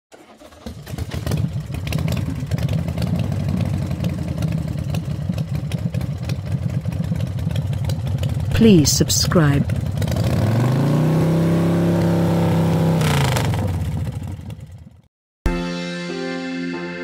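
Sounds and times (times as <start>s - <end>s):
vehicle engine running roughly: 0.1s - 15.1s.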